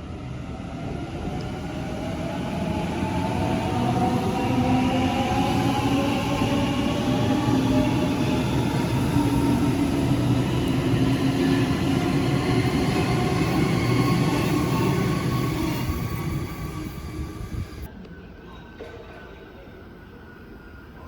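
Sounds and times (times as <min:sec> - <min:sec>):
train wheels rumbling on rails: 0:01.0 - 0:17.9.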